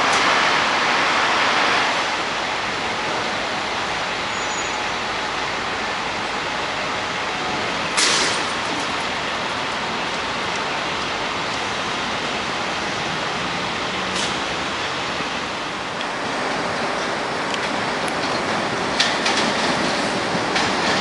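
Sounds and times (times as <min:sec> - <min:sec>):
electric train rushing: 0:00.0 - 0:21.0
street traffic: 0:00.0 - 0:21.0.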